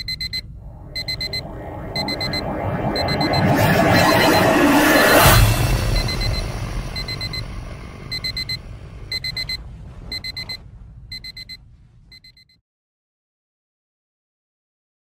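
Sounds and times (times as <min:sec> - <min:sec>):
low rumble: 0:00.0 - 0:12.4
alarm clock beeping: 0:00.0 - 0:12.6.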